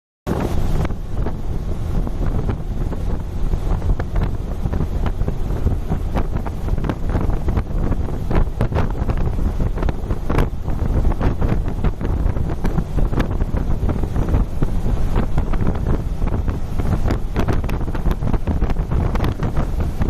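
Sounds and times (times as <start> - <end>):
wind buffeting microphone: 0.3 - 20.0.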